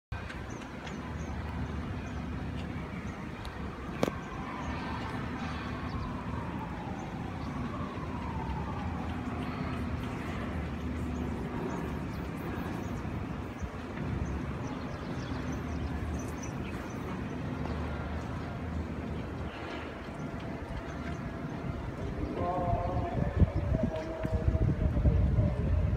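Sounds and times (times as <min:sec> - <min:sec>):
distant traffic hum: 0:00.1 - 0:25.9.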